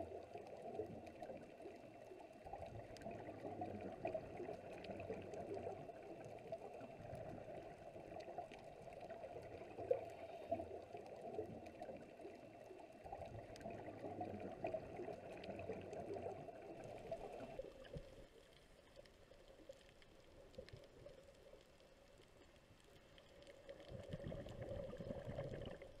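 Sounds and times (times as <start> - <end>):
underwater gurgling water: 0.0 - 26.0.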